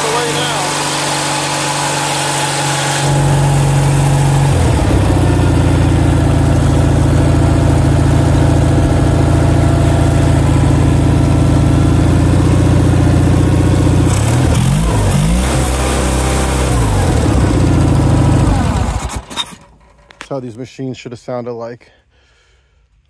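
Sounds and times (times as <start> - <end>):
small engine running steadily: 0.0 - 19.7.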